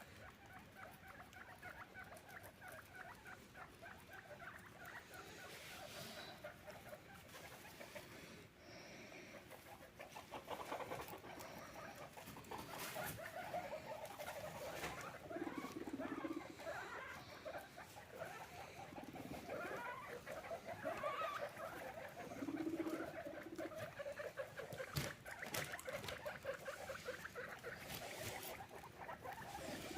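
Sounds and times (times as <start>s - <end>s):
guinea pigs chattering and squeaking: 0.0s - 29.9s.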